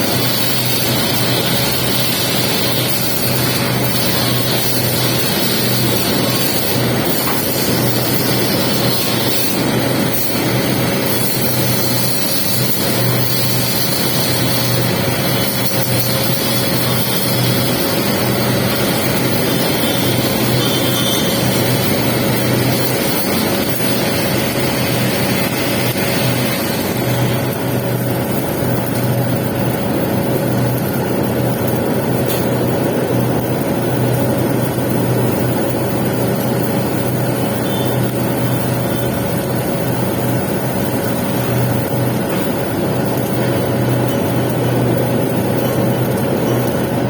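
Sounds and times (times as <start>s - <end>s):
welding hiss: 0.0s - 47.0s
welding machine hum: 0.0s - 47.0s.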